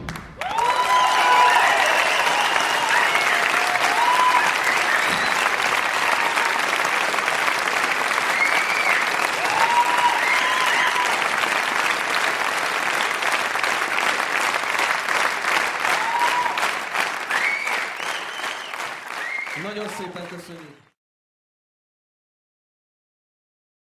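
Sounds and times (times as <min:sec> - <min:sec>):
audience applauding: 0:00.0 - 0:21.0
cheering calls: 0:00.4 - 0:20.8.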